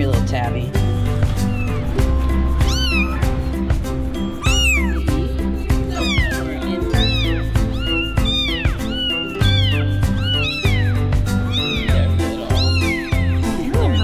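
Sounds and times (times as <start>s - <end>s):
background music: 0.0s - 14.0s
kittens mewing: 1.2s - 14.0s.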